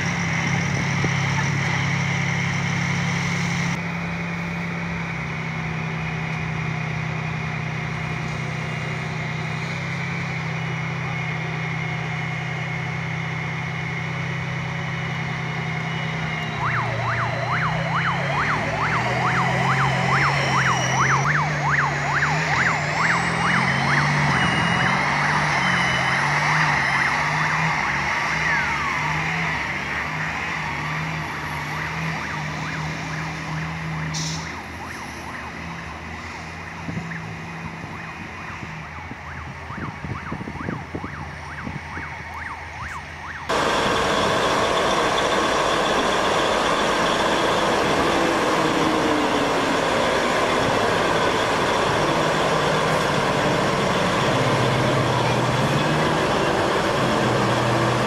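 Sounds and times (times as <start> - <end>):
heavy vehicle engines running: 0.0 - 58.0
street traffic noise: 0.0 - 58.0.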